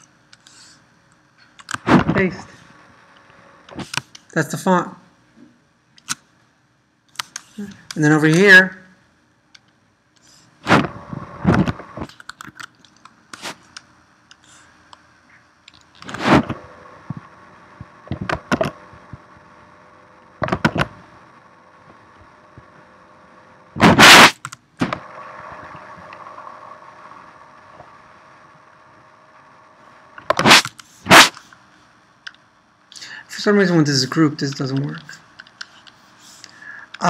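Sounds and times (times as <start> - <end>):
faint hum: 0.0 - 37.0.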